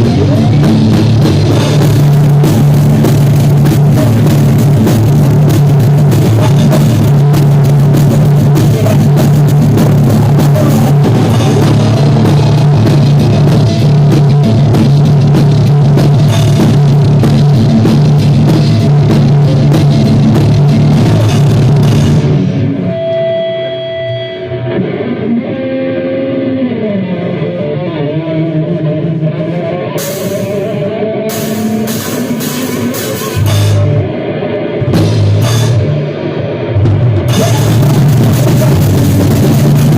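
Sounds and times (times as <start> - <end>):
drums: 0.0 - 39.9
electric guitar: 0.0 - 39.9.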